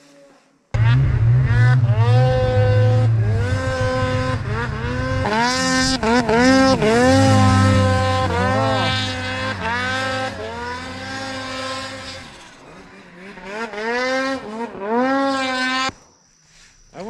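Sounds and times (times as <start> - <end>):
snowmobile engine revving: 0.8 - 16.0.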